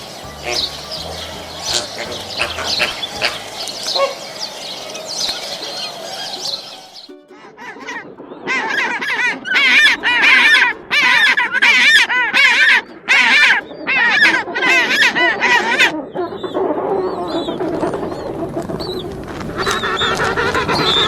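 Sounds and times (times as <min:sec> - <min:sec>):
bird honking calls: 0:00.0 - 0:21.0.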